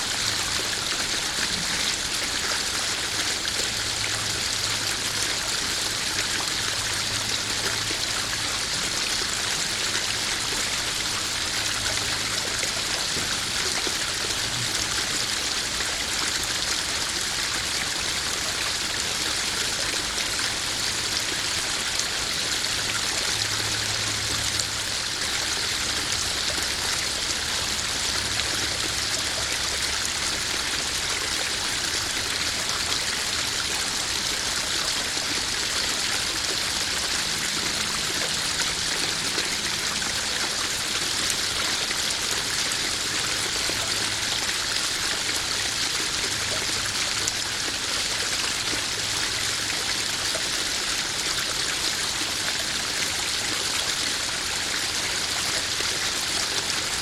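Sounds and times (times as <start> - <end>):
waterfall splashing into pond: 0.0 - 57.0.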